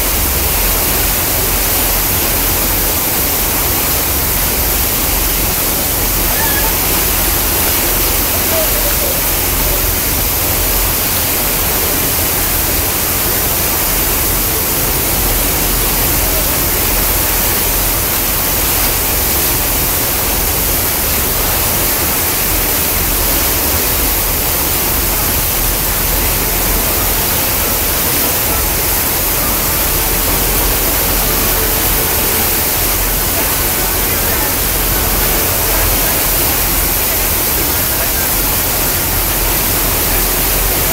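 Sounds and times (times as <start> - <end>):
low engine rumble: 0.0 - 40.9
water rushing past hull: 0.0 - 40.9.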